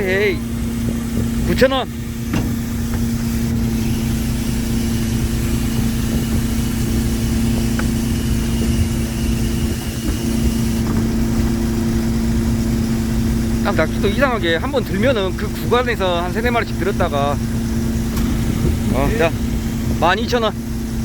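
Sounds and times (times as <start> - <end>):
boat engine and hauling machinery hum: 0.0 - 21.0.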